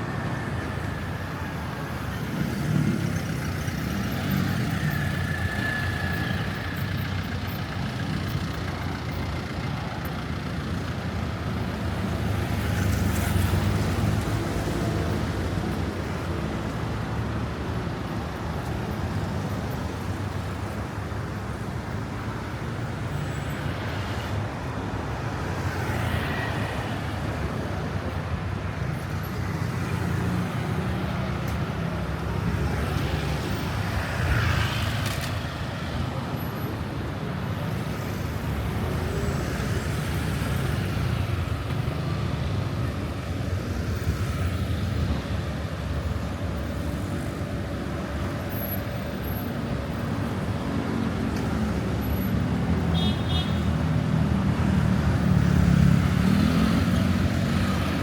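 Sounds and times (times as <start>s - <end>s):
traffic rumble: 0.0s - 58.0s
vehicles passing close by: 0.0s - 58.0s.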